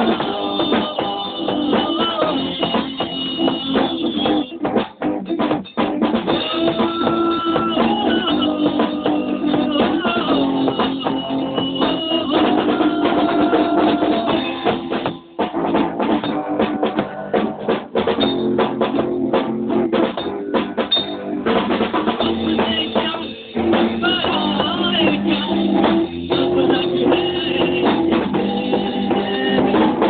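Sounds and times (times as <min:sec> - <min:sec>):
drum kit playing: 0:00.0 - 0:30.0
guitar playing: 0:00.0 - 0:30.0.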